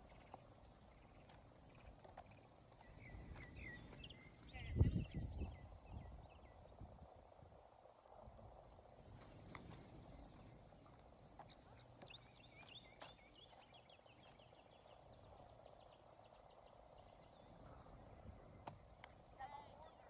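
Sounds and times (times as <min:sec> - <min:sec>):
birds chirping: 0:00.0 - 0:06.8, 0:08.8 - 0:20.0.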